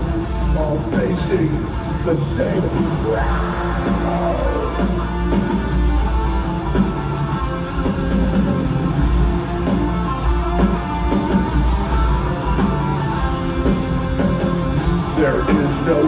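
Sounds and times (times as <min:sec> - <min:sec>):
bass guitar: 0:00.0 - 0:16.0
distorted electric guitars: 0:00.0 - 0:16.0
drums: 0:00.0 - 0:16.0.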